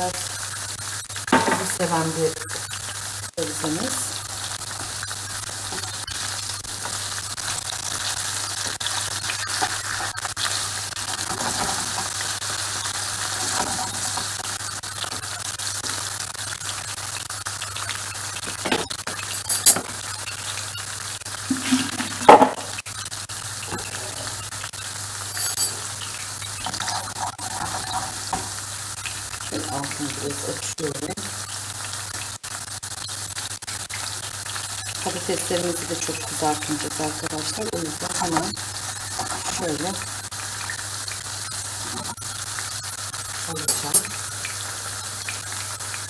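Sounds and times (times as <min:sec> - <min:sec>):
potatoes sizzling in oil: 0:00.0 - 0:46.0.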